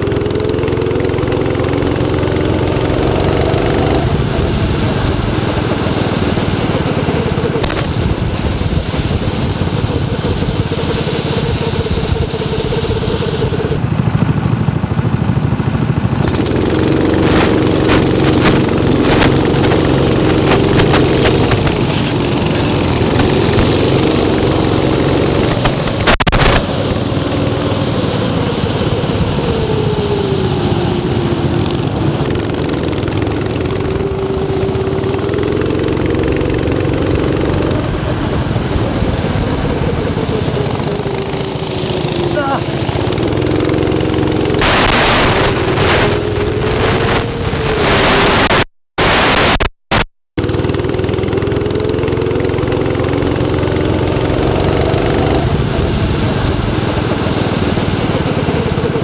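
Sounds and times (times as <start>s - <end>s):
go-kart engines: 0.0s - 48.6s, 50.4s - 59.0s.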